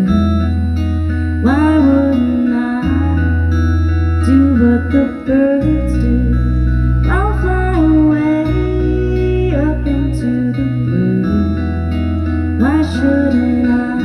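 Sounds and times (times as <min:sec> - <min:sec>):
bass long low notes: 0:00.0 - 0:14.0
guitar sliding notes: 0:00.0 - 0:14.0.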